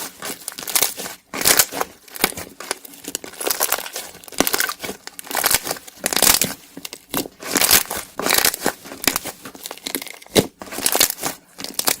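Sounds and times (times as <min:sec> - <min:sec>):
slime crust crackling and crunching: 0:00.0 - 0:12.0.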